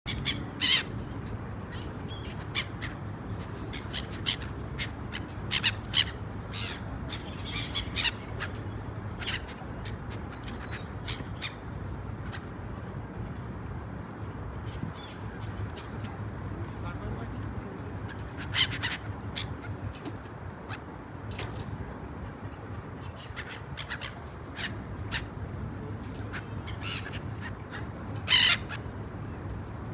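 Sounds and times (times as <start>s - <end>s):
gulls calling: 0.1s - 13.3s, 18.1s - 29.9s.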